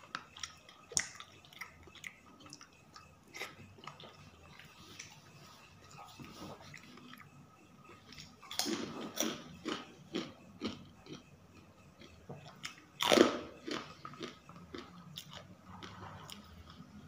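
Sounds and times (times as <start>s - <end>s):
chewing crunchy food: 0.0s - 17.0s.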